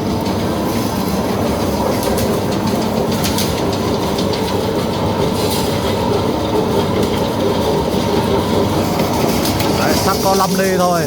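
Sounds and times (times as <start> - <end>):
welding machine rumble and clatter: 0.0 - 11.0.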